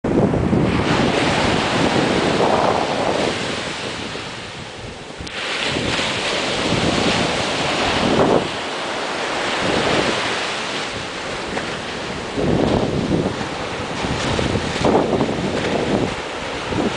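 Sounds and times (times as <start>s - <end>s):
surf washing up a beach: 0.1s - 16.9s.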